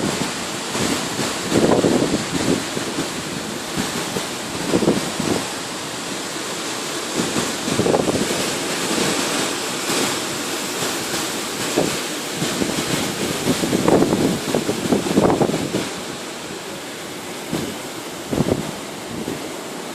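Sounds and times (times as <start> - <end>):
storm wind blowing in gusts: 0.0 - 19.9.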